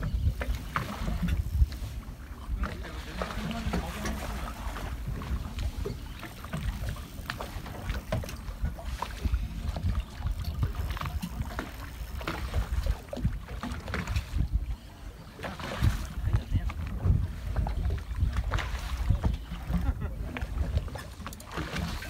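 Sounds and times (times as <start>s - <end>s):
waves slapping against hull: 0.0s - 22.0s
wind buffeting microphone: 0.0s - 22.0s.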